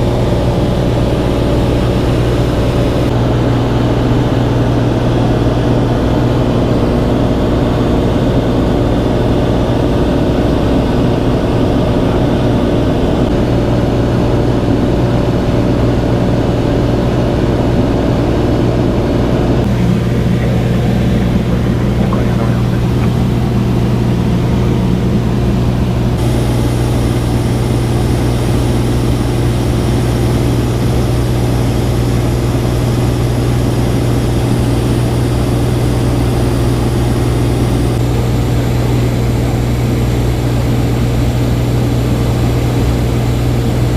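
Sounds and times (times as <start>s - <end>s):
airplane engine and propeller droning: 0.0s - 43.9s.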